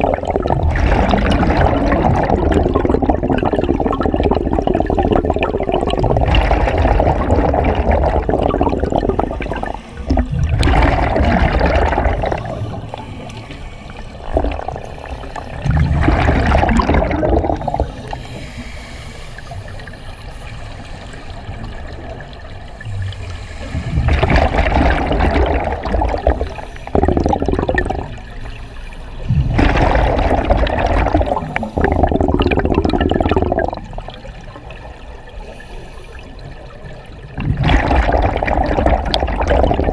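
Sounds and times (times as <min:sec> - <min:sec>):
exhaled bubbles underwater: 0:00.0 - 0:20.4, 0:21.0 - 0:39.9.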